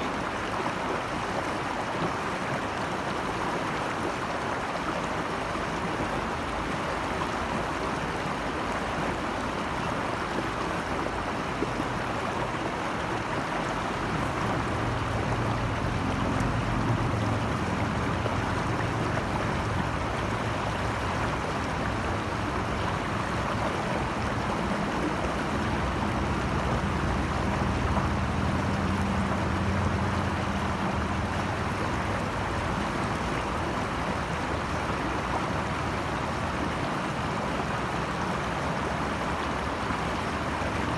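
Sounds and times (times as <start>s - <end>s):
flowing stream water: 0.0s - 40.9s.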